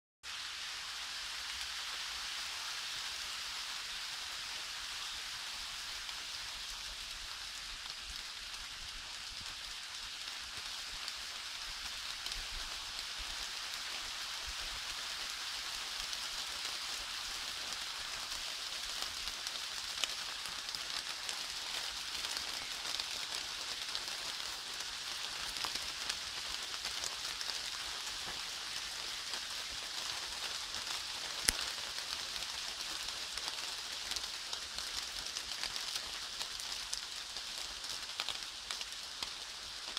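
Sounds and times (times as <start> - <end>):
rain falling on foliage: 0.2 - 39.9.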